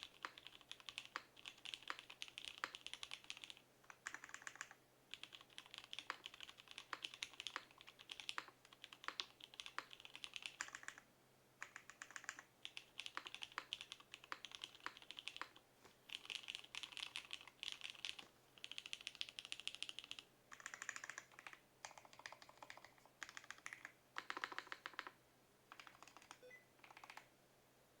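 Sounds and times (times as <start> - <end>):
mechanical keyboard typing: 0.0 - 11.0, 11.6 - 27.3.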